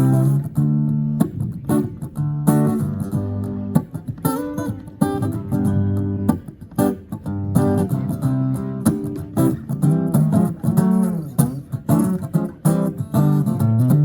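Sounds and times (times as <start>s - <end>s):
guitar strumming chords: 0.0s - 14.0s.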